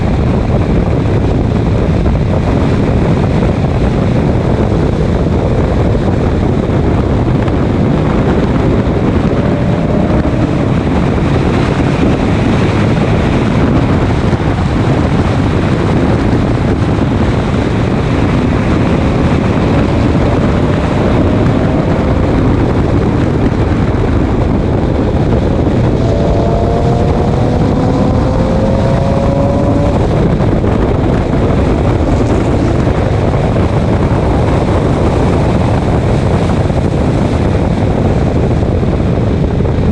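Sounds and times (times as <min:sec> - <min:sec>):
race car engine: 0:00.0 - 0:39.9
wind and road noise: 0:00.0 - 0:39.9.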